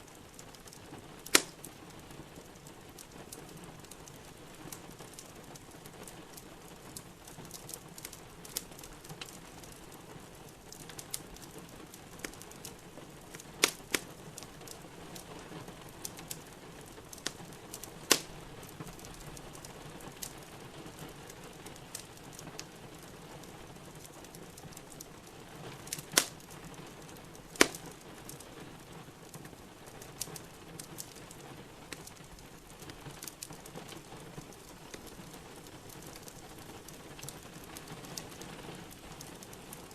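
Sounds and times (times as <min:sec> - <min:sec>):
fire popping: 0:00.0 - 0:39.9
steady rain: 0:00.0 - 0:39.9
wood fire crackling: 0:00.0 - 0:39.9.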